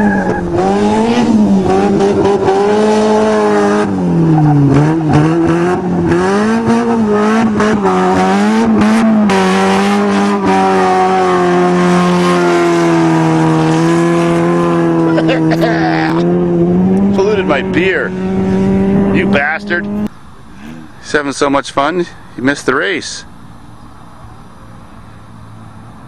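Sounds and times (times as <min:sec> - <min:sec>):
car engine revving hard: 0:00.0 - 0:21.2
engine crackles: 0:00.0 - 0:22.6.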